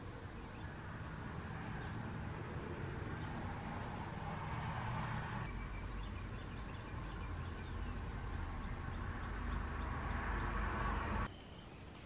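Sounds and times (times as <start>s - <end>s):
outdoor background rumble: 0.0s - 11.3s
small birds chirping: 0.0s - 12.0s.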